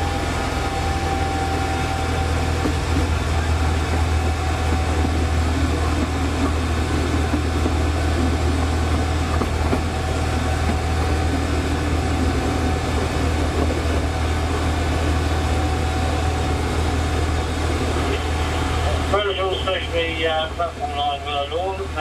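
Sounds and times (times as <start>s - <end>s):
miniature train engine drone: 0.0s - 22.0s.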